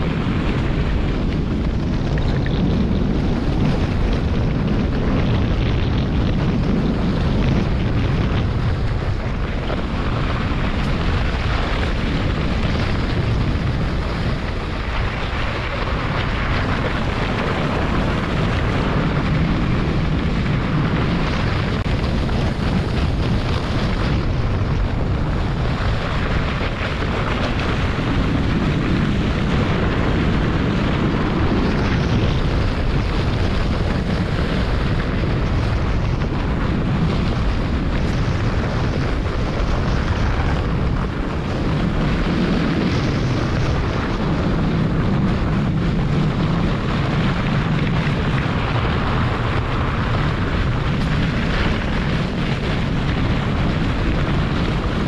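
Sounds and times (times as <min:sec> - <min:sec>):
sled runners rumbling on snow: 0:00.0 - 0:55.0
wind buffeting microphone: 0:00.0 - 0:55.0.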